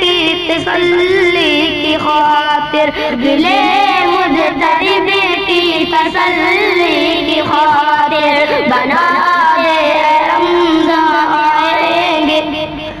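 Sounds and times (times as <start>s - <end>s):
high solo voice singing: 0.0s - 13.0s.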